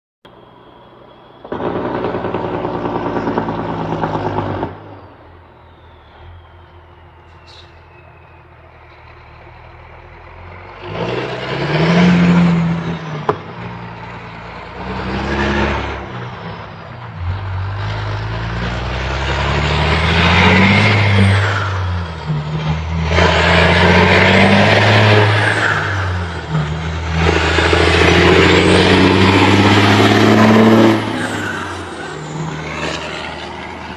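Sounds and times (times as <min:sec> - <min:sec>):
diesel truck engine revving: 0:00.3 - 0:33.9.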